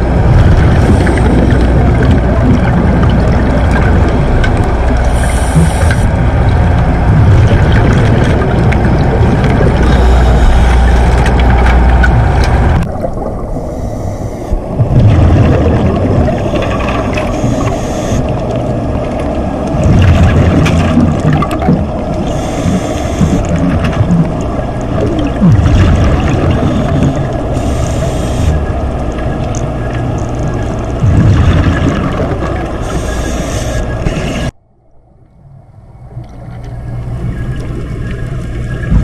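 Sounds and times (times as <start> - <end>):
regulator bubbles hissing: 0.0 - 34.6
low underwater rumble: 0.0 - 39.0.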